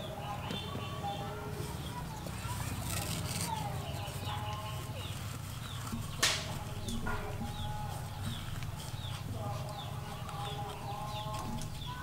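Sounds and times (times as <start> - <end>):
birds chirping: 0.0 - 12.0
steady low hum: 2.2 - 12.0.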